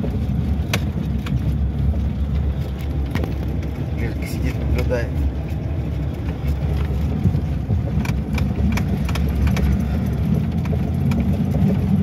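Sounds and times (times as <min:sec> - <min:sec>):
car engine and cabin rumble: 0:00.0 - 0:12.0
car knocks and rattles: 0:00.0 - 0:12.0.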